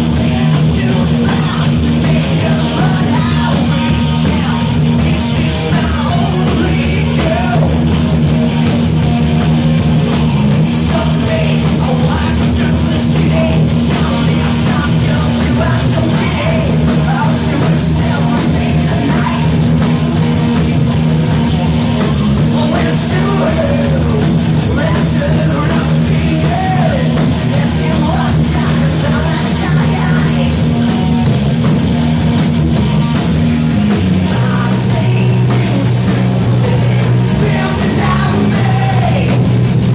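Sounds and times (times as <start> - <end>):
person singing: 0.0 - 7.8, 10.5 - 31.3, 34.2 - 39.4
live punk rock band: 0.0 - 39.9.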